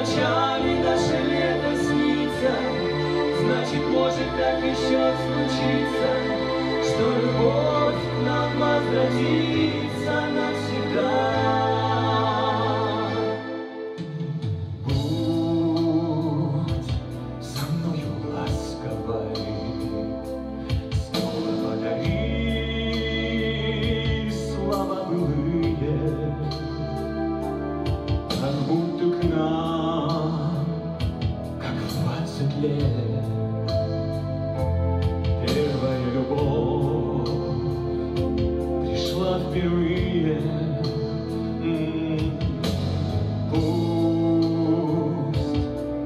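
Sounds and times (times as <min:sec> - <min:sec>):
man singing: 0:00.0 - 0:14.1, 0:14.8 - 0:34.1, 0:35.1 - 0:46.0
instrumental accompaniment: 0:00.0 - 0:46.0.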